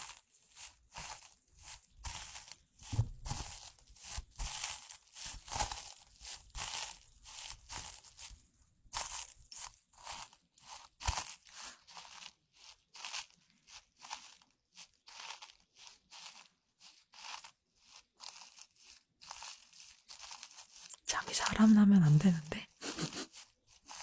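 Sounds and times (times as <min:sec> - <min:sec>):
crunching and crinkling: 0:00.0 - 0:24.0.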